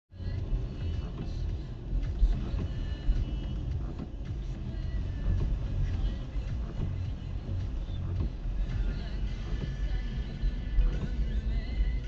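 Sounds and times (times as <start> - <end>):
car driving on wet road: 0.1 - 12.0.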